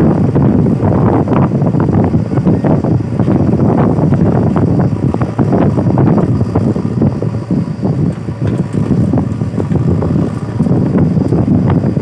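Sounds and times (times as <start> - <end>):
diesel engine under load: 0.0 - 12.0
wind buffeting microphone: 0.0 - 12.0.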